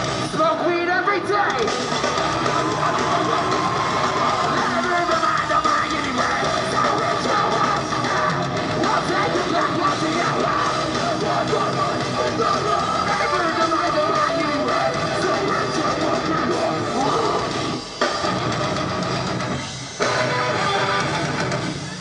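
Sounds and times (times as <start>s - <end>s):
live metal band playing: 0.0s - 22.0s.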